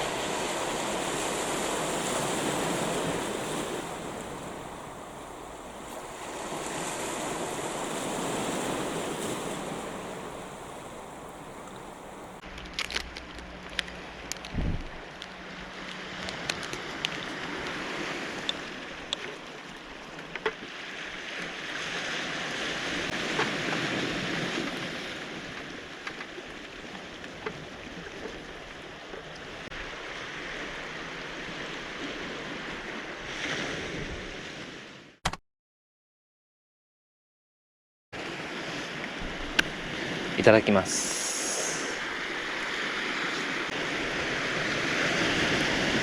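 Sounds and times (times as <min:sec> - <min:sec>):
waves washing onto cobble beach: 0:00.0 - 0:34.7, 0:38.2 - 0:46.0.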